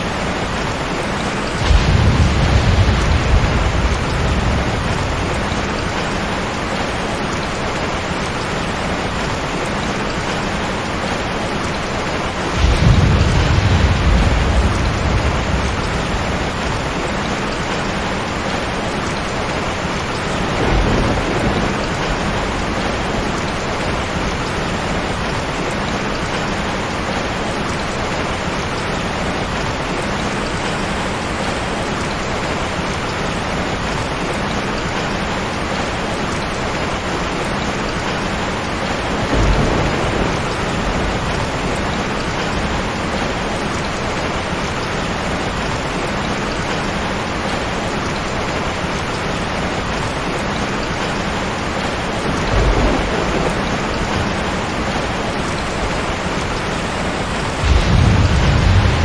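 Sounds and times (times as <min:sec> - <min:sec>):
heavy rain falling: 0:00.0 - 0:59.0
thunder rumbling: 0:00.1 - 0:27.4, 0:34.9 - 0:59.0.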